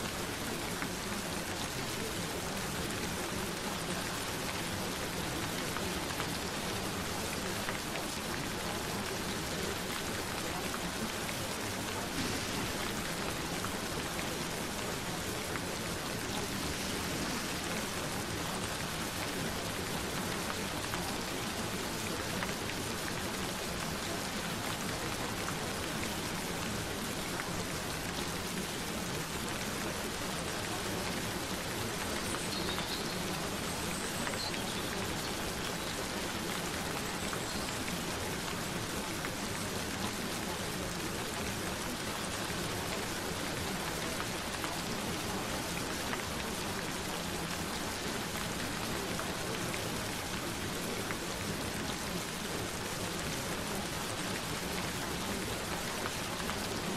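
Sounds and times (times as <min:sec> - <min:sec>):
gentle rain hissing: 0:00.0 - 0:56.9.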